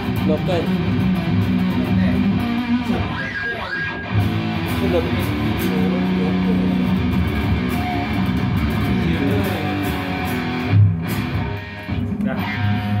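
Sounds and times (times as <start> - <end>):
electric guitar chugging riffs: 0.0 - 13.0.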